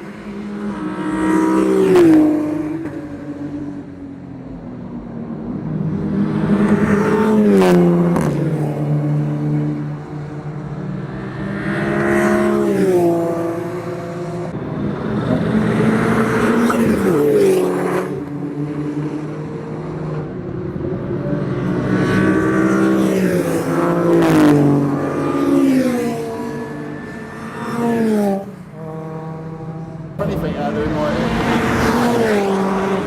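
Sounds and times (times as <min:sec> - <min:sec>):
race car engine revving: 0:05.6 - 0:33.0.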